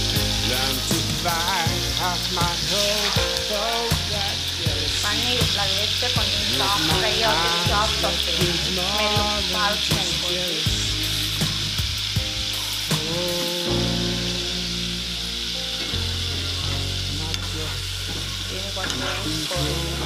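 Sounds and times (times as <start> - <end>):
cheese frying in hot oil: 0.0 - 20.0
pop song playing: 0.0 - 20.0.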